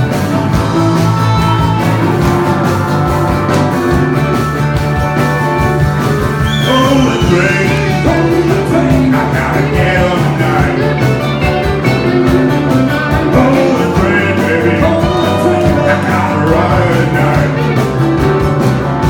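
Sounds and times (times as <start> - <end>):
rock and roll band music: 0.0 - 19.0.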